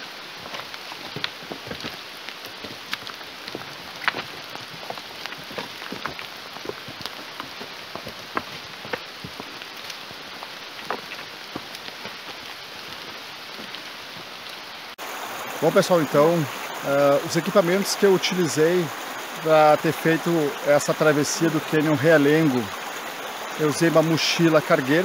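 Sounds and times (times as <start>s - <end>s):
rain falling: 0.0s - 25.0s
rain drop ticks: 0.4s - 25.0s.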